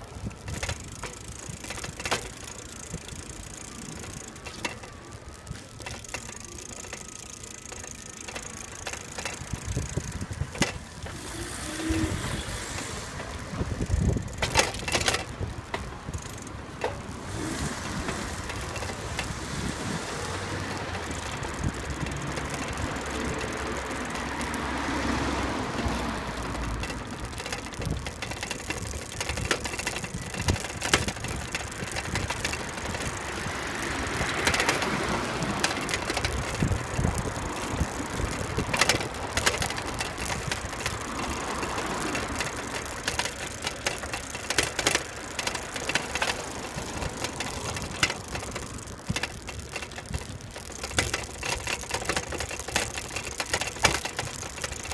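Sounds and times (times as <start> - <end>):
vehicle rattles and knocks: 0.0 - 54.9
wind and tyres rushing: 0.0 - 54.9.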